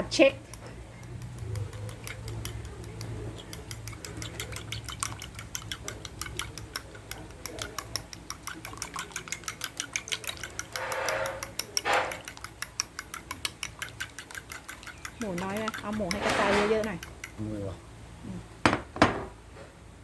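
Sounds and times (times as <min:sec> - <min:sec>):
utensil beating eggs in bowl: 0:00.0 - 0:17.4.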